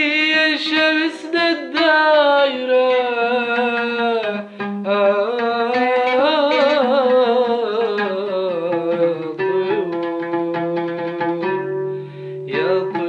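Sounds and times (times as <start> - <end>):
ornamented instrumental melody: 1.6 - 13.0.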